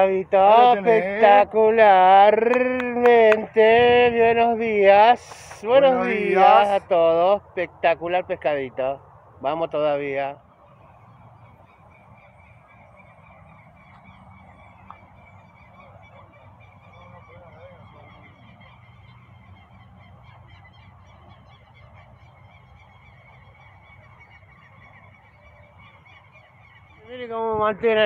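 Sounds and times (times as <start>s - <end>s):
many birds calling: 0.0s - 6.9s, 10.2s - 28.0s.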